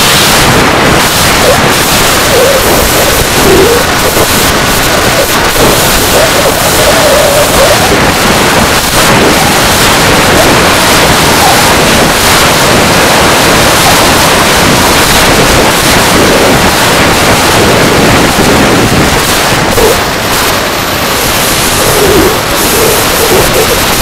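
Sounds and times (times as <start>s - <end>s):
jet engine noise: 0.0s - 24.0s
wind rushing: 0.0s - 24.0s.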